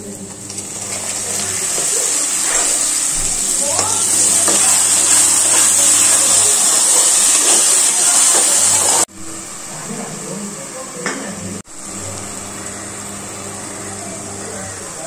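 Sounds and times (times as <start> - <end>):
puree sizzling in hot oil: 0.0 - 10.3, 11.6 - 15.0.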